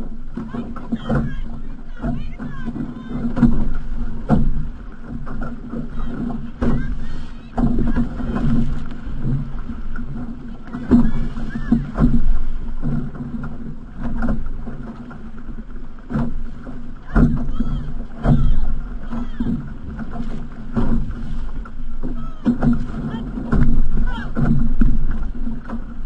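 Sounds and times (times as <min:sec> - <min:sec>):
sharp splashes: 0:00.0 - 0:25.8
water slapping against hull: 0:00.0 - 0:26.0.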